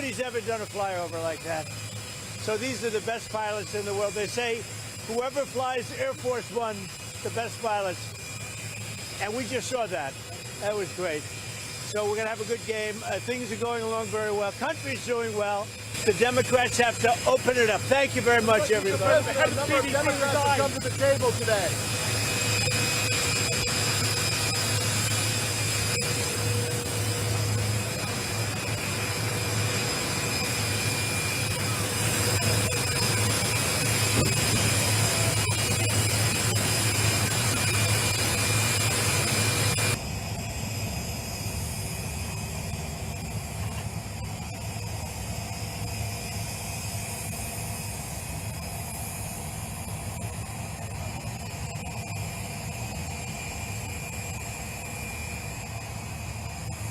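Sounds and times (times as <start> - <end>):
jet engines roaring with whine: 0.0 - 56.9.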